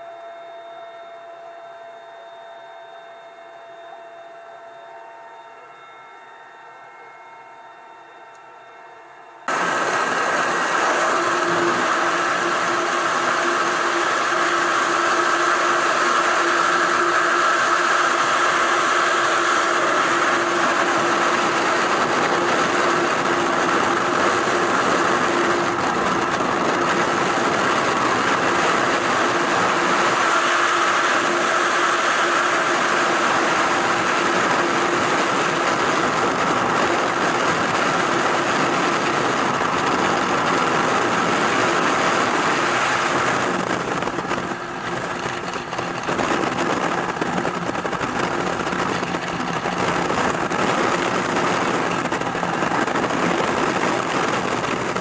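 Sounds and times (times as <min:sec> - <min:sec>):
freefall wind roar on microphone: 0:09.5 - 0:55.0.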